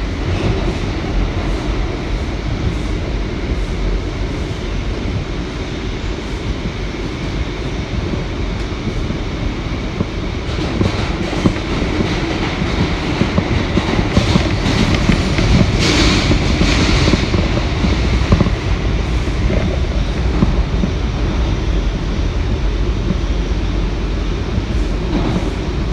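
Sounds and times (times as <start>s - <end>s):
rail joint clicks: 0.0s - 25.9s
train wheels rumbling on rails: 0.0s - 25.9s.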